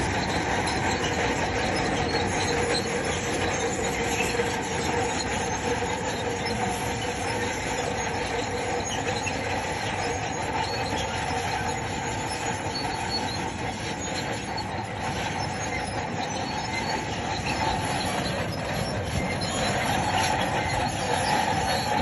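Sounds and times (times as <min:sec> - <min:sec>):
bulldozer diesel engine running: 0:00.0 - 0:22.0
steel tracks squealing and clattering: 0:00.0 - 0:22.0.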